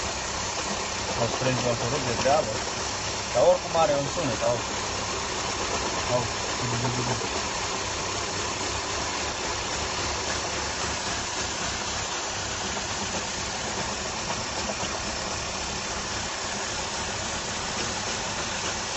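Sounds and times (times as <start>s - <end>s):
hissy mechanical noise: 0.0s - 18.9s.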